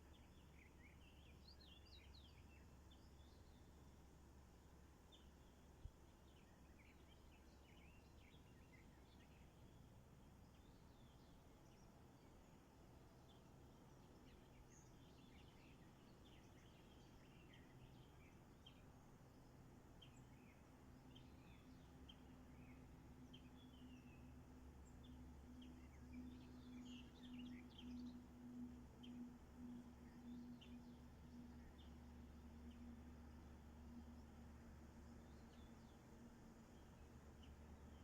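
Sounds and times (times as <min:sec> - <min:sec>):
distant songbirds chirping: 0:00.0 - 0:38.0.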